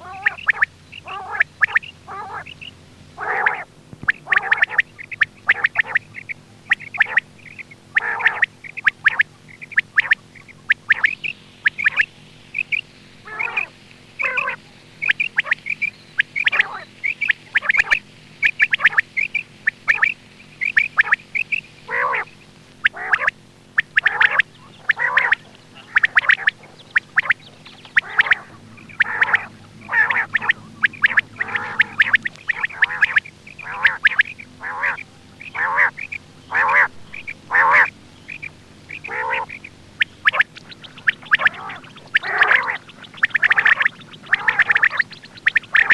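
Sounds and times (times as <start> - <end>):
faint steady hum: 0.0 - 45.9
quail calling: 0.0 - 45.9.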